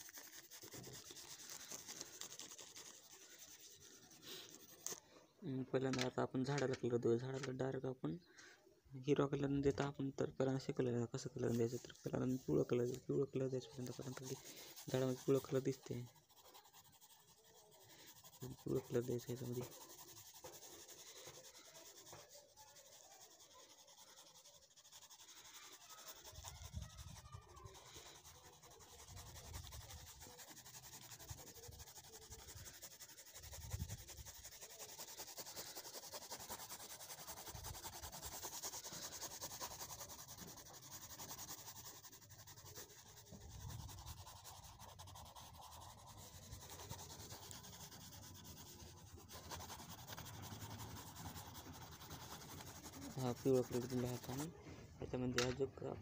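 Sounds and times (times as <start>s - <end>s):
pencil scratching on paper: 0.0s - 5.0s, 10.5s - 54.6s.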